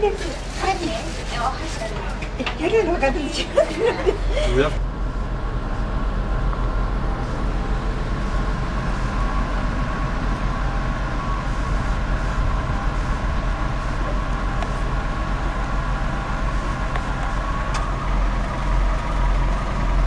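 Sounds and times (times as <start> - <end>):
engine running with low rumble: 0.0 - 20.0
faint steady whine: 0.0 - 20.0.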